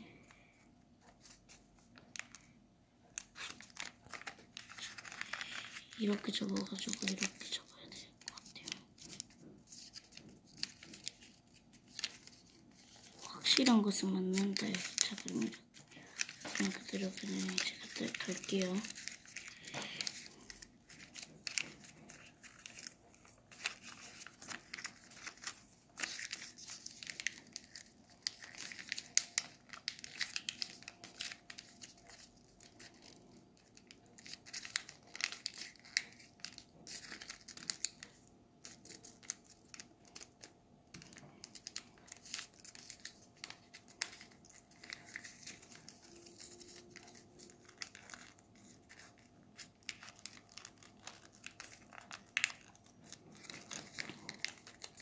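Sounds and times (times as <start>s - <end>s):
paper folding and crinkling: 0.0s - 55.0s.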